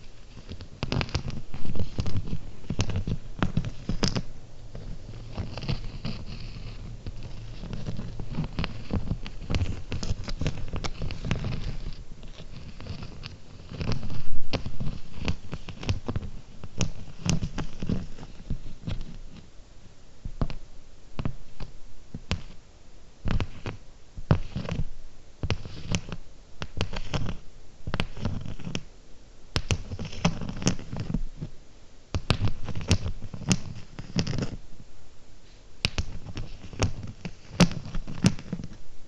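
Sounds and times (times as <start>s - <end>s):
soft rustling: 0.0s - 28.9s, 29.5s - 39.0s
fingernails tapping and scratching: 0.1s - 19.4s, 21.2s - 22.6s, 23.2s - 28.9s, 29.6s - 31.5s, 32.2s - 34.6s, 35.8s - 38.8s.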